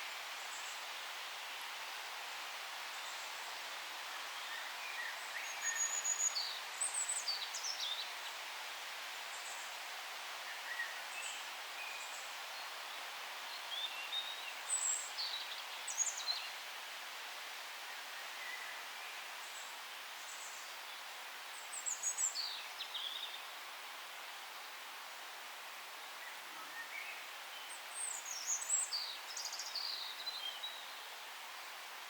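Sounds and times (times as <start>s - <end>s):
forest birds chirping: 0.0s - 1.6s, 2.9s - 8.4s, 10.4s - 16.6s, 17.8s - 25.0s, 25.8s - 32.0s
background hiss: 0.0s - 32.0s.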